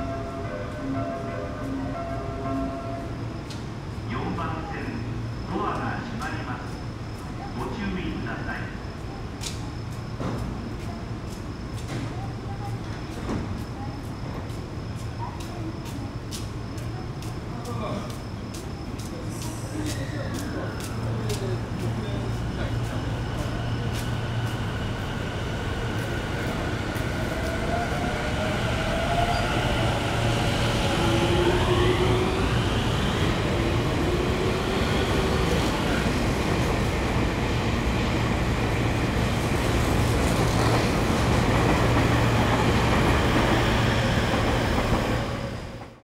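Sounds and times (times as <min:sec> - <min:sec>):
train cars running noise: 0:00.0 - 0:46.0.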